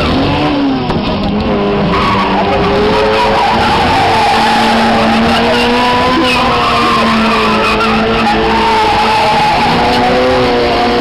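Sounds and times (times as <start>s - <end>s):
car engine running hard: 0.0s - 11.0s
tyres squealing on asphalt: 0.0s - 11.0s.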